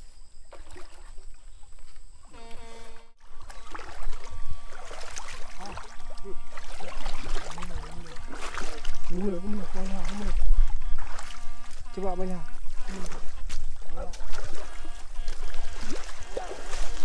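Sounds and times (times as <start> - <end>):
steady humming tone: 0.0 - 17.0
water sloshing and splashing: 0.0 - 17.0.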